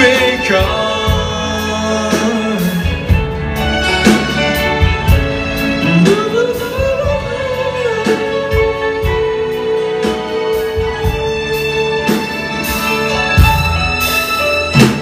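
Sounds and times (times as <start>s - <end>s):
live band playing a ballad: 0.0s - 15.0s.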